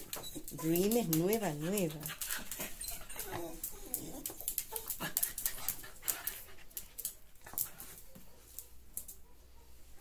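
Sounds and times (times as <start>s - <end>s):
dog claws clicking on tiles: 0.0s - 9.2s.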